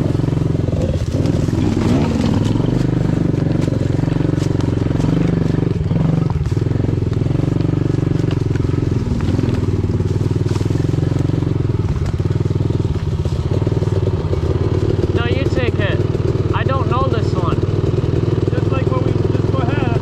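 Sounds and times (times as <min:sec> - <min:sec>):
pit bike engine running: 0:00.0 - 0:20.0.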